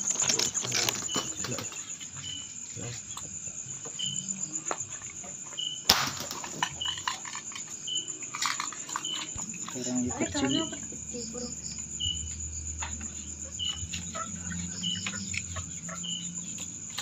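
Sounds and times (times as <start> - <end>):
crickets trilling: 0.0 - 17.0
short cricket chirp: 0.0 - 17.0.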